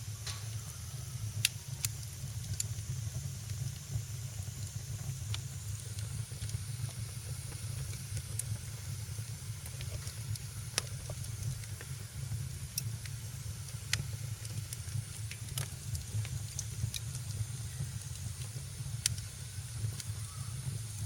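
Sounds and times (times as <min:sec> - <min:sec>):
wood fire crackling: 0:00.0 - 0:21.0
sharp pops from fire: 0:00.2 - 0:21.0.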